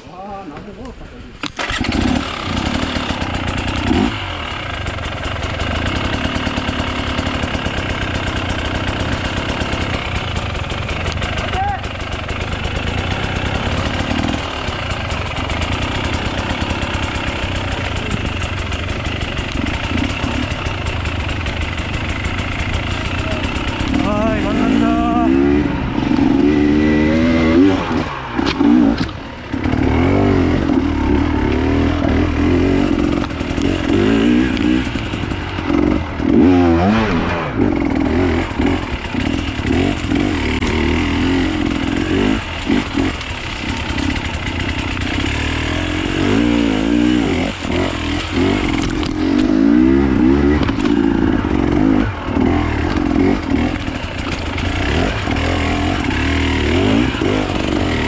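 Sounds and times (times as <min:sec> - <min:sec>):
dirt bike engine revving: 0:01.4 - 0:58.0.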